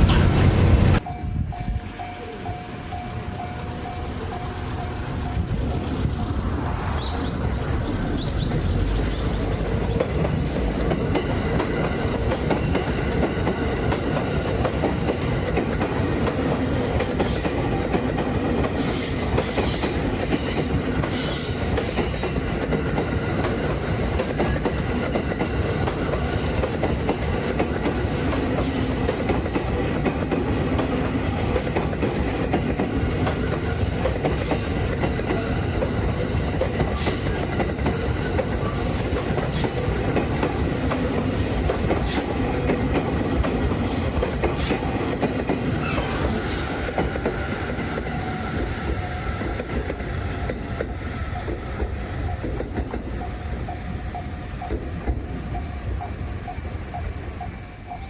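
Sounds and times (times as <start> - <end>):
wheels clickety-clack: 0.0 - 1.0, 2.9 - 58.0
train rumbling on rails: 0.0 - 58.0.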